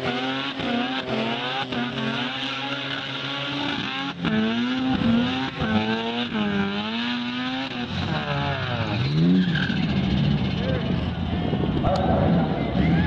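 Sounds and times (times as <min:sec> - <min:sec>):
engine revving high: 0:00.0 - 0:10.9.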